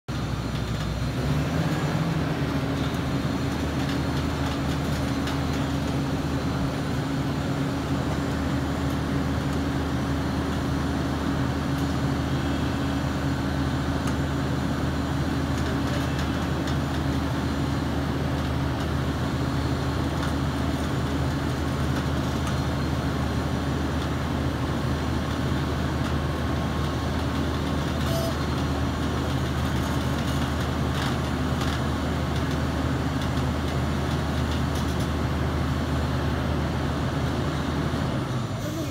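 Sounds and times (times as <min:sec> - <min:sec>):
diesel engine humming: 0:00.1 - 0:38.9.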